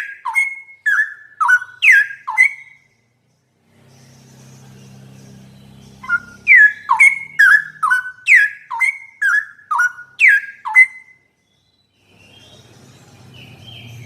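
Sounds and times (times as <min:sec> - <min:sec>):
bird singing whistled notes: 0:00.0 - 0:03.1, 0:03.8 - 0:14.0.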